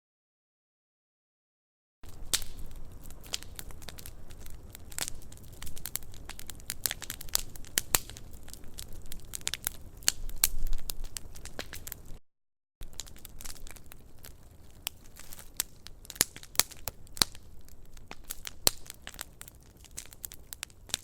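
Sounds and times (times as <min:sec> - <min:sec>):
campfire crackling: 0:02.0 - 0:12.2, 0:12.8 - 0:21.0.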